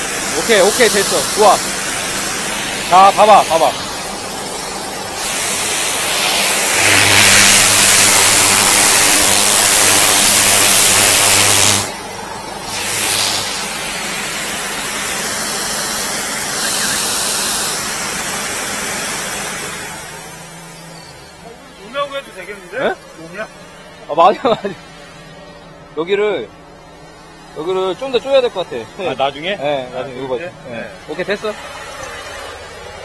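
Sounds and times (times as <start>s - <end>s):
water jetter spraying: 0.0s - 25.5s, 26.6s - 33.0s.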